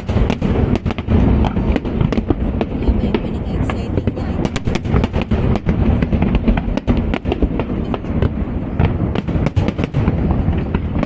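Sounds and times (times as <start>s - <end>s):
fireworks booming and cracking: 0.0s - 11.0s.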